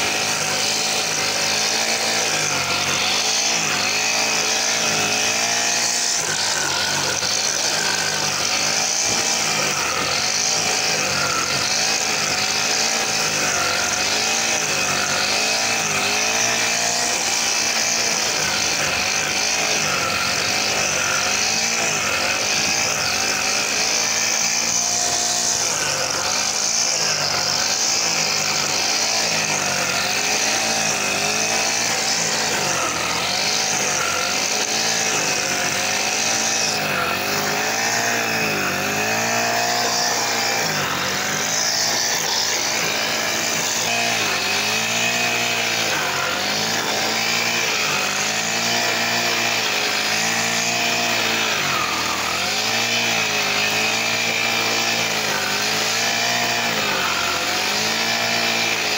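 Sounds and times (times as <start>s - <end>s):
brush cutter cutting grass: 0.0s - 58.9s.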